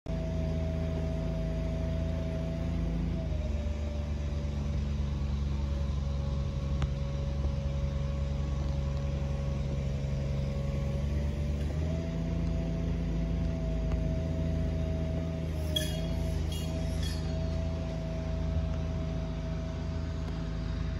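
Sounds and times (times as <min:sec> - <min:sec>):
engine running: 0:00.1 - 0:20.9.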